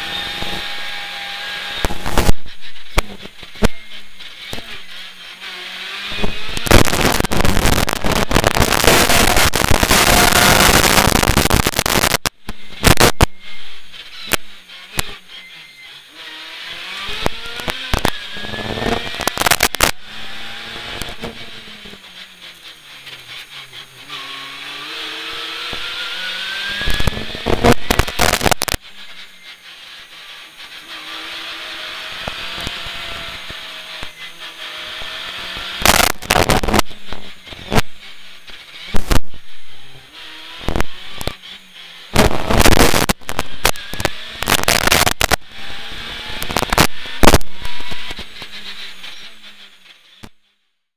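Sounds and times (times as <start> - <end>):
rally car engine revving: 0.0 - 50.4.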